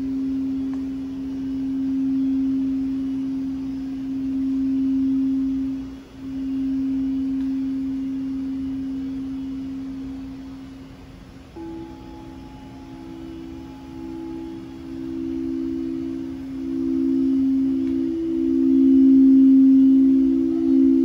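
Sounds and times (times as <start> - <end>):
singing bowl higher tone: 0.0 - 10.9, 11.5 - 21.0
singing bowl low tone: 0.0 - 21.0.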